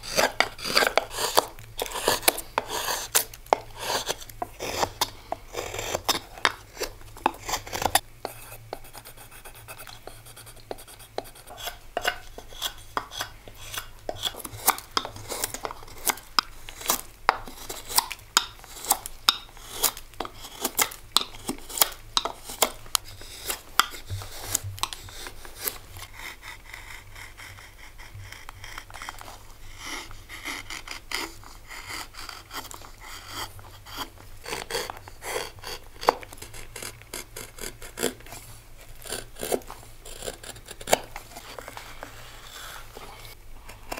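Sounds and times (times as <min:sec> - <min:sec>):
faint steady hum: 0:00.0 - 0:43.9
knife carving wood: 0:00.0 - 0:43.9.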